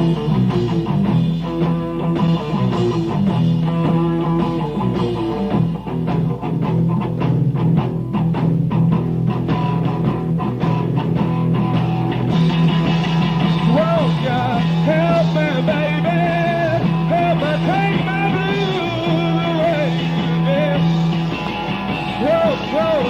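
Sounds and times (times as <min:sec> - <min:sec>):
live rock band playing: 0:00.0 - 0:23.0
wavering lead guitar melody: 0:00.0 - 0:23.0.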